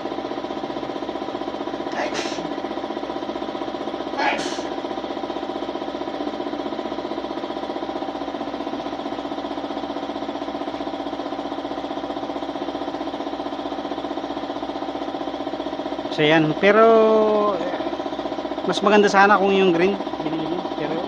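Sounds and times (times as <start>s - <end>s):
motor running steadily: 0.0s - 21.0s.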